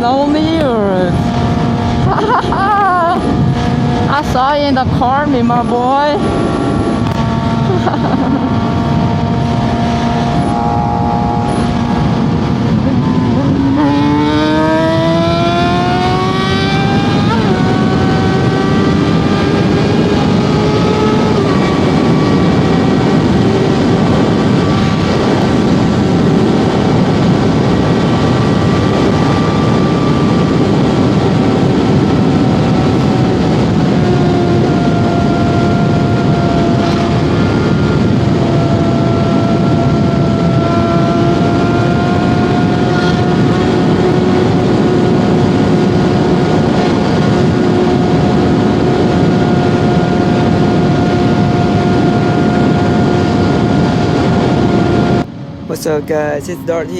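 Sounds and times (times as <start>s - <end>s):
motorcycle engine accelerating: 0.0s - 55.7s
wind and road rush: 0.0s - 56.9s.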